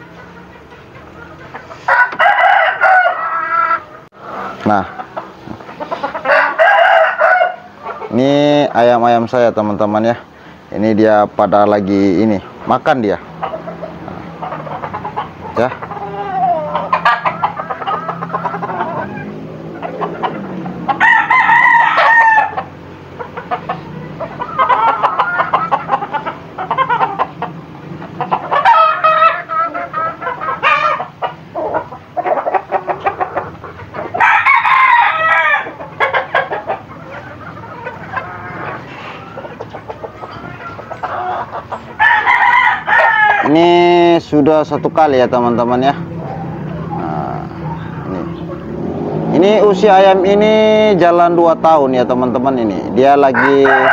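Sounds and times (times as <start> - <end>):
rooster clucking: 0.0 - 53.9
roosters crowing: 0.0 - 53.9.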